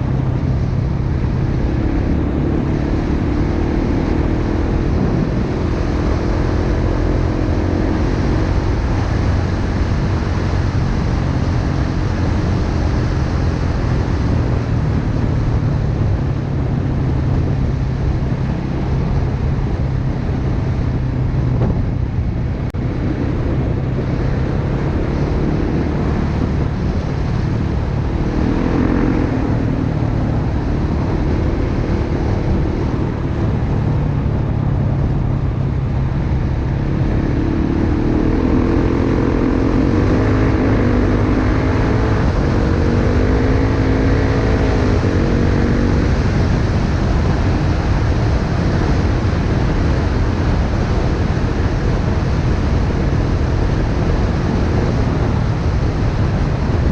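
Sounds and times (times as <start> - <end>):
wind rush on microphone: 0.0 - 56.9.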